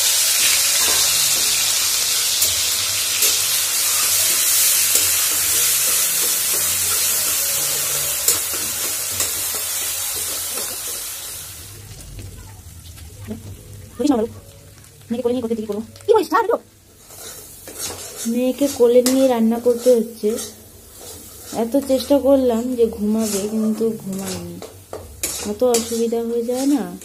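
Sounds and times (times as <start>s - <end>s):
onion sizzling in hot oil: 0.0s - 27.0s.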